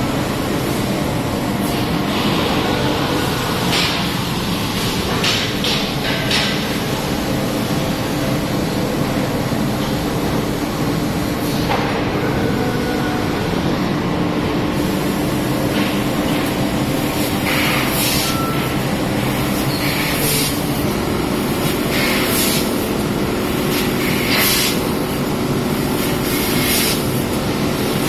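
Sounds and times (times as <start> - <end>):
laser cutter humming: 0.0 - 28.0.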